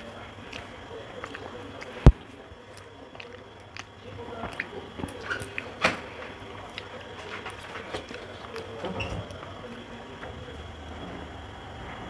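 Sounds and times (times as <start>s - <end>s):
fingers mixing food on metal plate: 0.0s - 9.9s
wet chewing: 0.0s - 10.6s.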